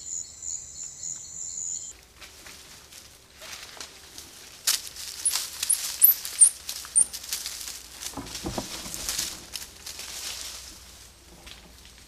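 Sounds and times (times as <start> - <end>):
dry leaves crackling and rustling: 1.9 - 12.0.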